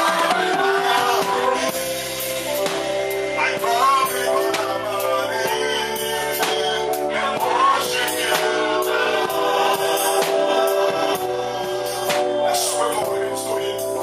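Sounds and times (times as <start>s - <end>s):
gospel group singing with instruments: 0.0s - 14.0s.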